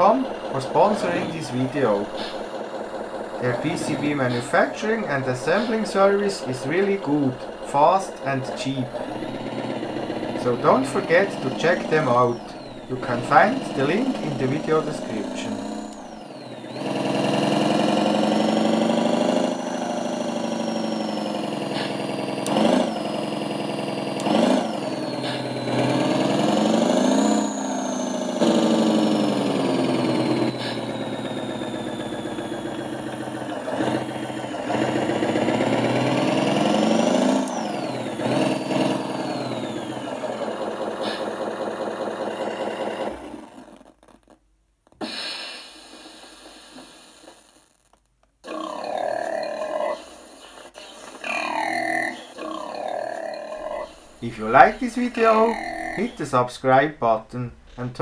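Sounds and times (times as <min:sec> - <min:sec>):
simulated engine revving: 0:00.0 - 0:44.0, 0:48.4 - 0:58.0.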